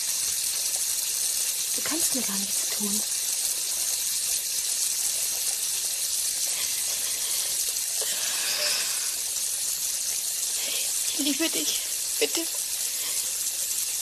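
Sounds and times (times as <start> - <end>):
rushing water hiss: 0.0 - 14.0.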